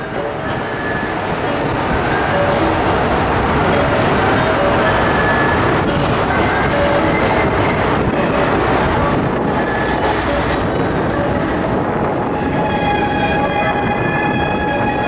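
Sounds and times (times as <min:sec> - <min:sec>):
steady multi-pitch tone: 0:00.0 - 0:15.0
train wheels rumbling on rails: 0:00.0 - 0:15.0.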